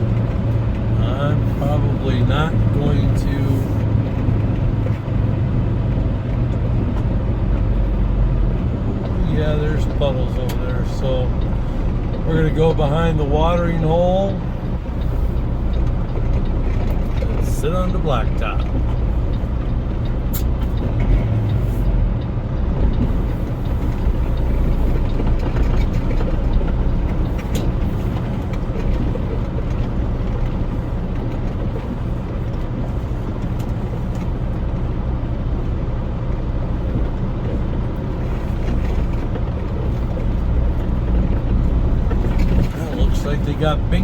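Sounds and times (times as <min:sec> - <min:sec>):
truck engine rumbling: 0:00.0 - 0:44.0.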